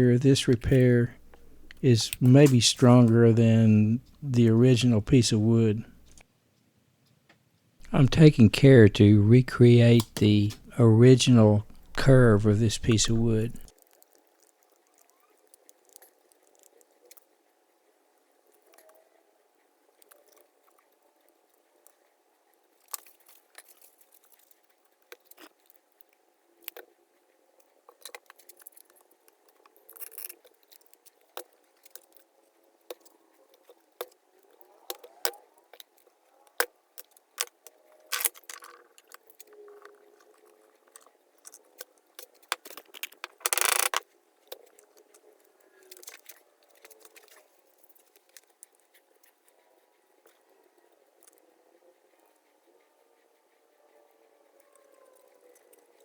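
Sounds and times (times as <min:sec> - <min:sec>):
hand tools and wood clicking: 0:00.0 - 0:06.2, 0:07.3 - 0:17.3, 0:22.6 - 0:52.4.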